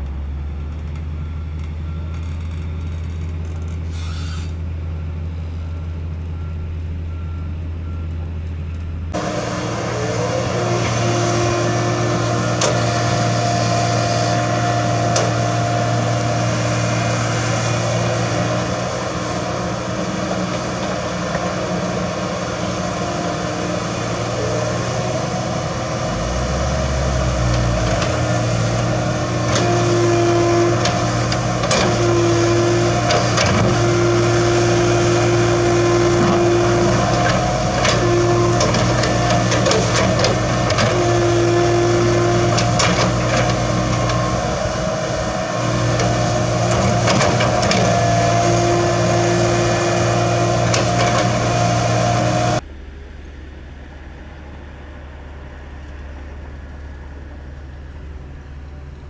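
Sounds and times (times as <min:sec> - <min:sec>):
diesel engine running: 0:00.0 - 0:59.0
high engine whine: 0:00.0 - 0:59.0.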